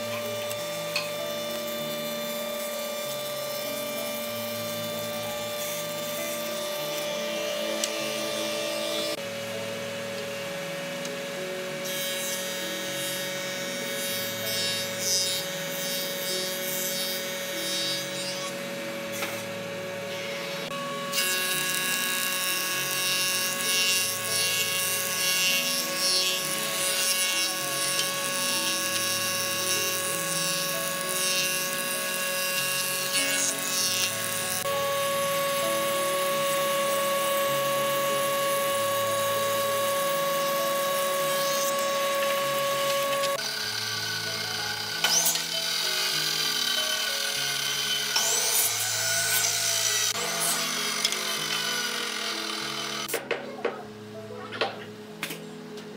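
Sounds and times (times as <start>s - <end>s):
thickness planer whining: 0.0s - 54.2s.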